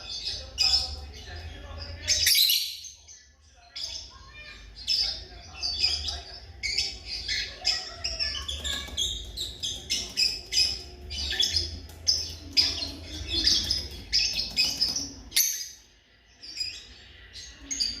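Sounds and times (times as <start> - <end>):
birds chirping high: 0.0 - 18.0.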